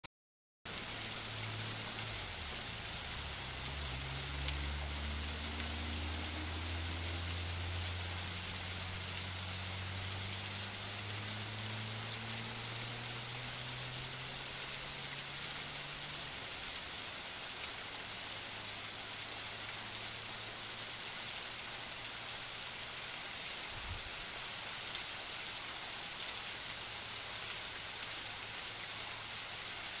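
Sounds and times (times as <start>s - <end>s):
waterfall rushing: 0.7s - 30.0s.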